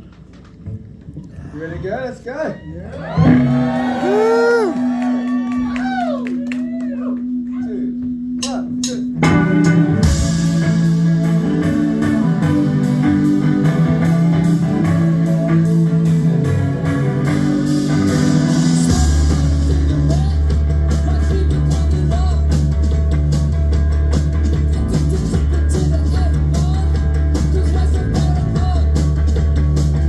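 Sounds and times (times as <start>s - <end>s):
heavy bass line: 3.0s - 30.0s
live rock band playing: 3.0s - 30.0s.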